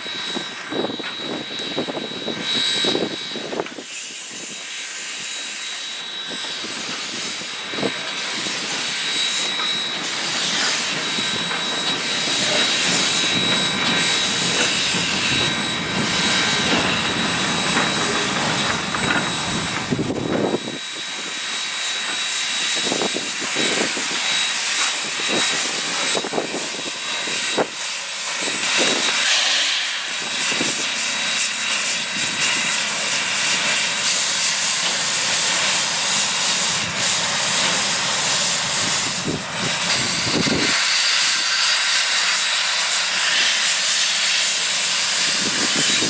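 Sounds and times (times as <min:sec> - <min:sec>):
steam locomotive hissing steam: 0:00.0 - 0:46.0.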